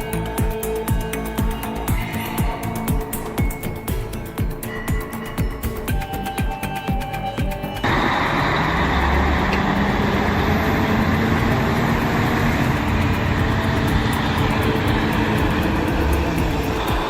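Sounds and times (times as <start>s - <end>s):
heavy vehicle engine rumbling: 0.0s - 17.0s
music with a beat: 0.0s - 17.0s.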